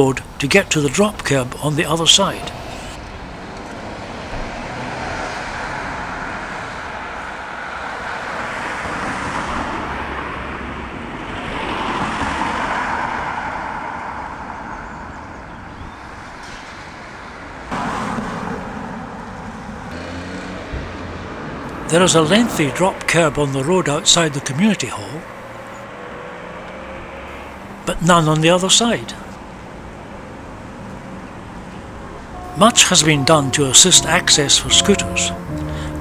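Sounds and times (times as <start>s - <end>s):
cars passing on busy road: 0.0s - 36.0s.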